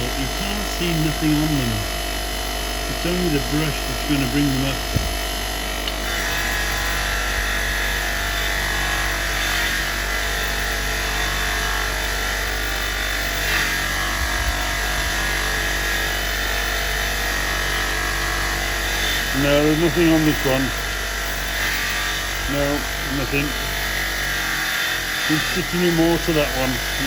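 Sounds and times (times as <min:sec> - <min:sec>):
rotary wire brush on metal: 0:00.0 - 0:27.0.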